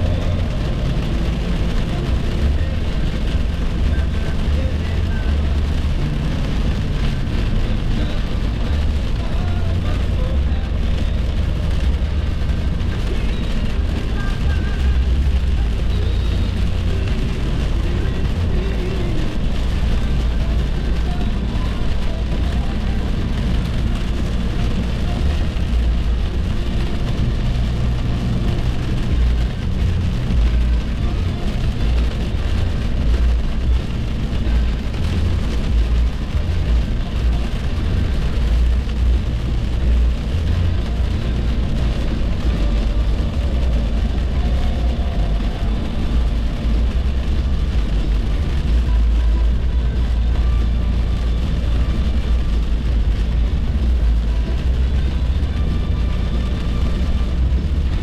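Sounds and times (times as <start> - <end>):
car driving at highway speed: 0.0 - 58.0.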